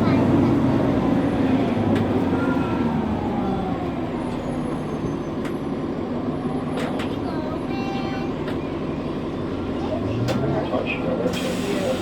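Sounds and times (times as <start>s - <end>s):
bus engine rumble: 0.0s - 12.0s
bus interior rattles: 0.0s - 12.0s.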